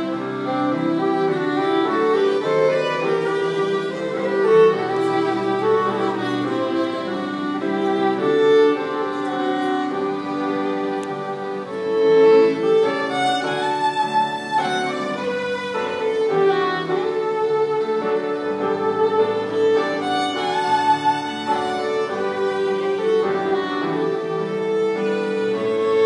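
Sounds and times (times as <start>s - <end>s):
fiddle duet: 0.0s - 26.0s.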